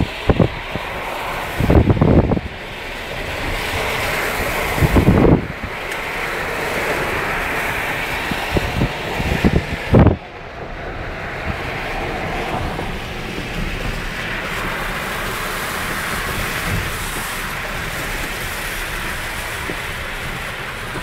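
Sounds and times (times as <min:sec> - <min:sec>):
rain: 0:00.0 - 0:21.0
road noise inside moving car: 0:00.0 - 0:21.0
traffic noise: 0:00.0 - 0:21.0
wind buffeting microphone: 0:00.0 - 0:21.0.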